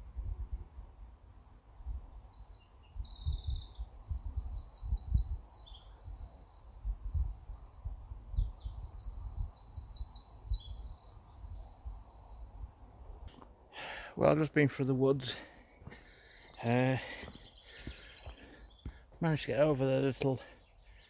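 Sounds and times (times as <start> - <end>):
songbirds trilling and twittering: 1.5 - 21.0.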